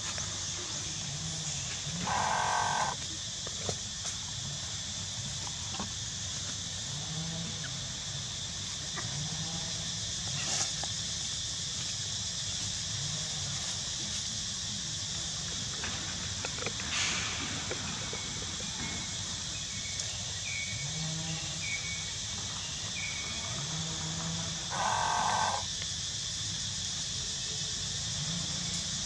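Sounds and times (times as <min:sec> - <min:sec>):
high-pitched insect drone: 0:00.0 - 0:15.7, 0:16.4 - 0:29.0.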